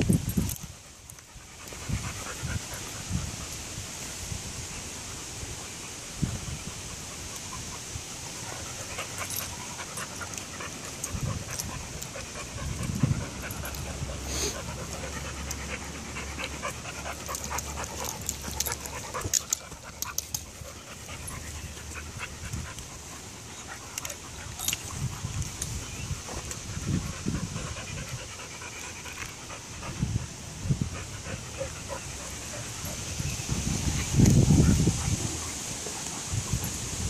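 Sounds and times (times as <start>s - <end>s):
dogs panting heavily: 0.0s - 37.0s.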